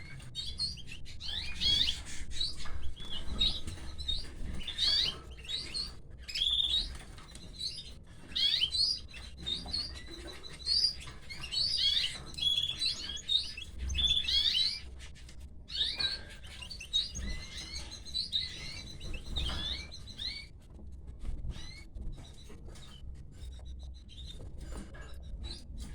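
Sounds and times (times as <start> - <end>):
canaries chirping: 0.0 - 25.9.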